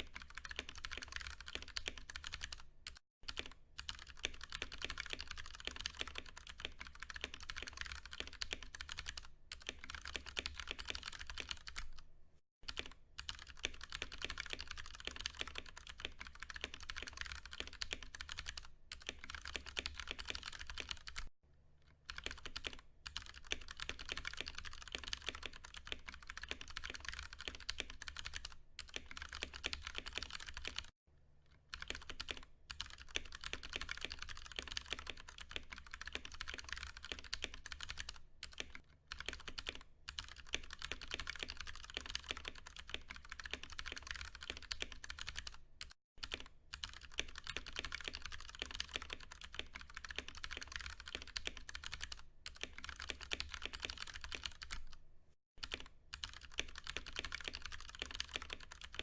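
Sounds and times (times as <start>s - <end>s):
typing on mechanical keyboard: 0.0s - 12.0s, 12.7s - 21.3s, 22.1s - 30.9s, 31.7s - 55.0s, 55.6s - 59.0s.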